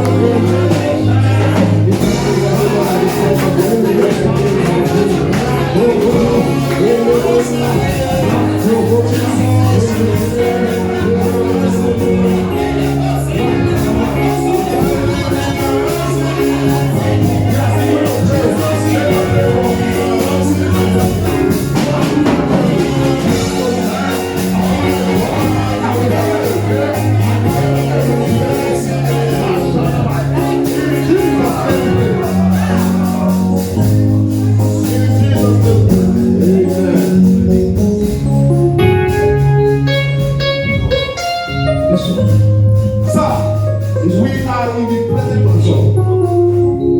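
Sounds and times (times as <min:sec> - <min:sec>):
worship music with drum beat: 0:00.0 - 0:46.8
held bass notes: 0:00.0 - 0:46.9
person singing: 0:00.0 - 0:46.9.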